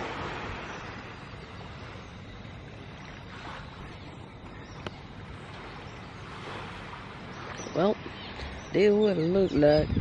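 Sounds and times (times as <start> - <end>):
gentle surf washing onto beach: 0.0 - 9.8
wind rumbling on microphone: 0.0 - 10.0.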